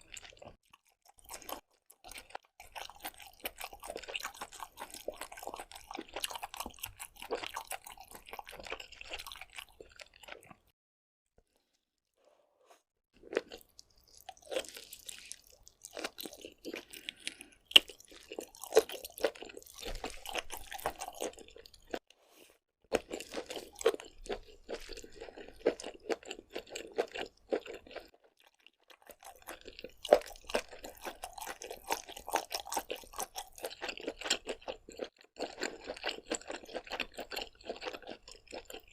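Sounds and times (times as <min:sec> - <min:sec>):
chewing and crunching: 0:00.0 - 0:10.7, 0:13.2 - 0:22.1, 0:22.9 - 0:38.9.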